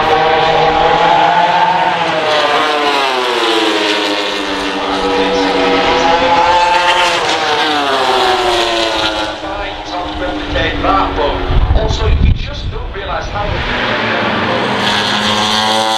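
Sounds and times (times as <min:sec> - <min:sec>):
racing motorcycles passing at speed: 0:00.0 - 0:15.9.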